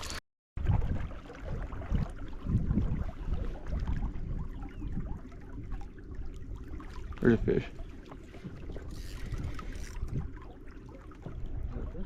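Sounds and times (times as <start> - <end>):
faint water sounds: 0.0 - 12.0
fishing boat engine rumble: 0.0 - 12.0.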